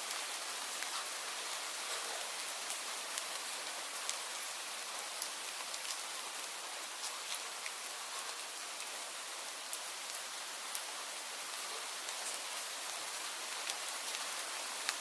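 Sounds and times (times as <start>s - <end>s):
soft outdoor hiss: 0.0s - 15.0s.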